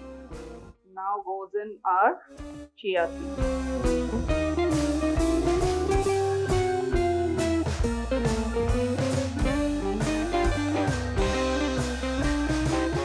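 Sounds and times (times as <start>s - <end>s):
drum kit steady beat: 0.0s - 0.7s, 2.3s - 13.0s
blues electric guitar: 0.0s - 0.8s, 2.4s - 13.0s.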